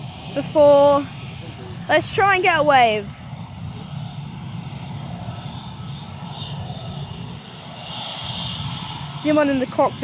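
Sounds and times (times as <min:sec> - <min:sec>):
jet engines running at low power: 0:00.0 - 0:10.0.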